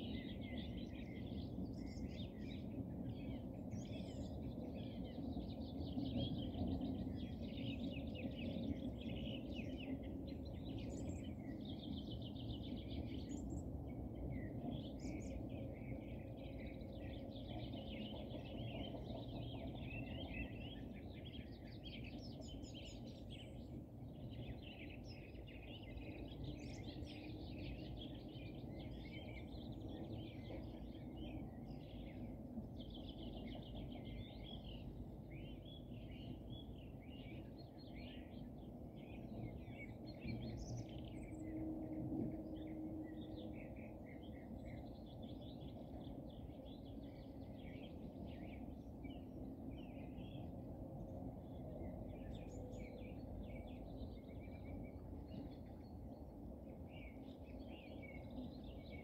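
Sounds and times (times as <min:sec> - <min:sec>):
small birds singing and chirping: 0:00.0 - 0:59.0.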